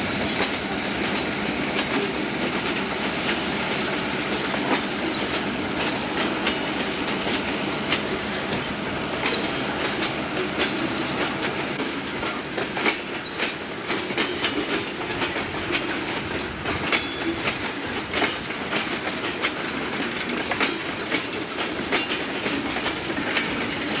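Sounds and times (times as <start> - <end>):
train rumble: 0.0 - 24.0
train wheels clickety-clack: 0.0 - 24.0.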